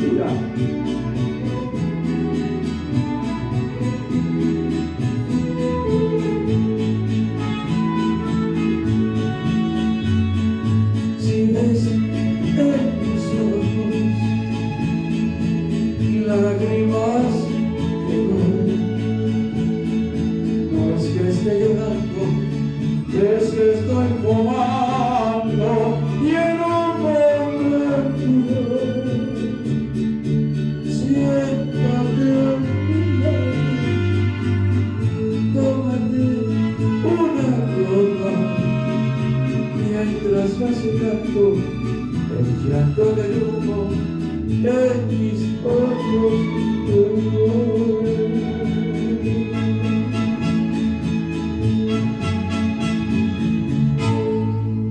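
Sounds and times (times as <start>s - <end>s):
man singing into a microphone: 0.0s - 54.6s
instrumental backing music: 0.0s - 54.9s.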